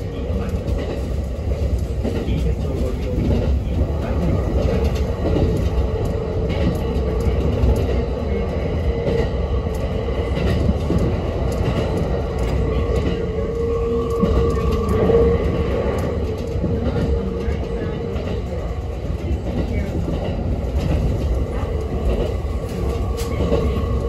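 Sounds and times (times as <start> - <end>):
electric train whine: 0.0 - 24.0
train wheels rumbling on rails: 0.0 - 24.0.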